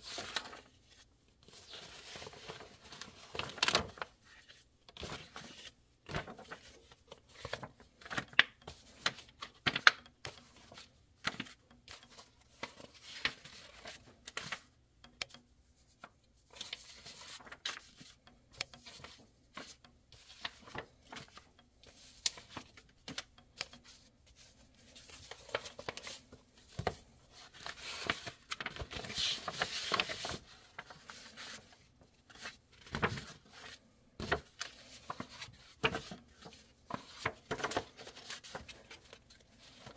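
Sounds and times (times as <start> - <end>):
paper sheets rustling and flicking: 0.0 - 14.8, 15.9 - 18.2, 18.8 - 39.9.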